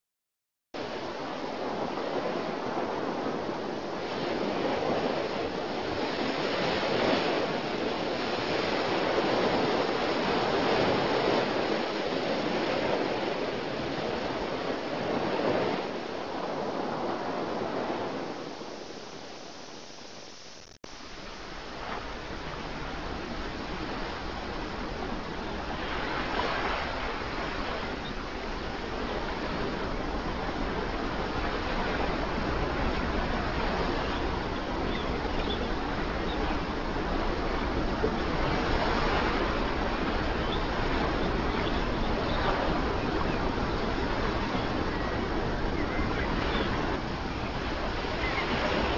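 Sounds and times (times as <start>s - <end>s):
ocean waves: 0.8s - 48.9s.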